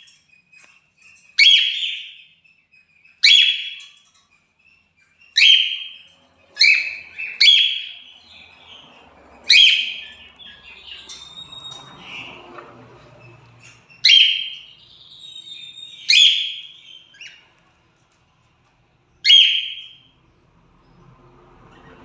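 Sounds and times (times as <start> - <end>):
cockatiels calling: 0.0 - 18.2, 19.2 - 20.2, 21.6 - 22.0
soft bird chatter: 0.0 - 22.0.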